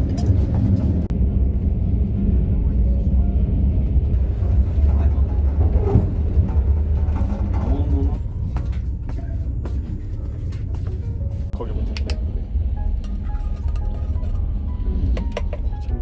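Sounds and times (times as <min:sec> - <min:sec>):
train rumble from inside carriage: 0:00.0 - 0:16.0.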